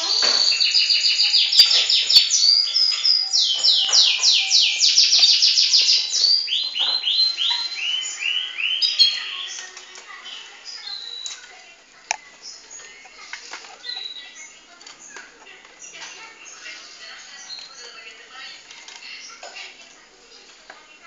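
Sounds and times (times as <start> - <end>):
canary singing trills: 0.0 - 20.5.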